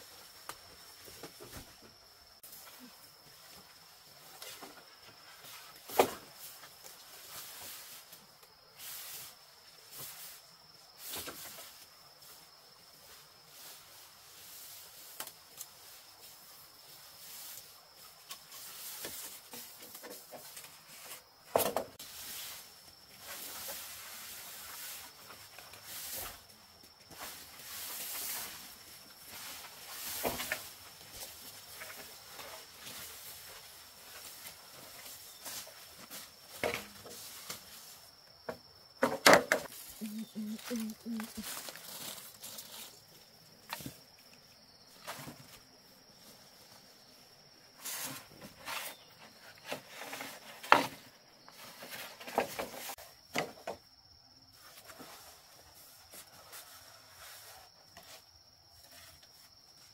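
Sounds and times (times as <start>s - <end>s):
rustling through leaves and brush: 2.3s - 38.3s, 39.6s - 50.8s, 54.5s - 59.9s.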